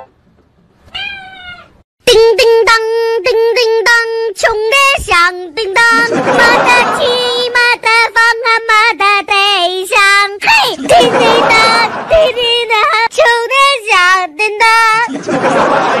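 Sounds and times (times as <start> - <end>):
high child-like singing voice: 2.0 - 15.2.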